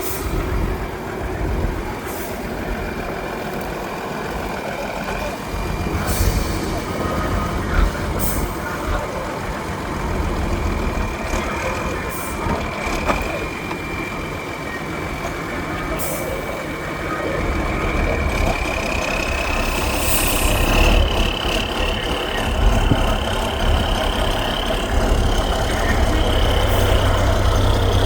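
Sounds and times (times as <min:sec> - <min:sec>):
truck engine whining: 0:00.0 - 0:28.0.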